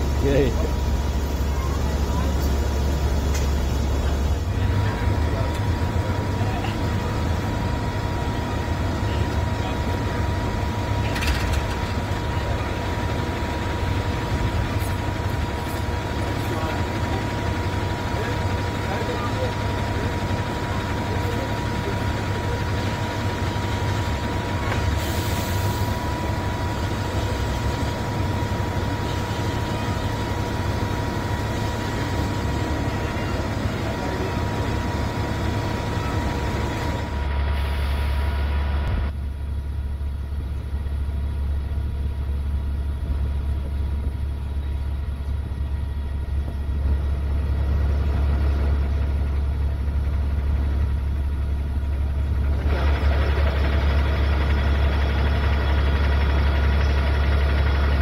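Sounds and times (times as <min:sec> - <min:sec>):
heavy vehicle engine idling: 0:00.0 - 0:58.0.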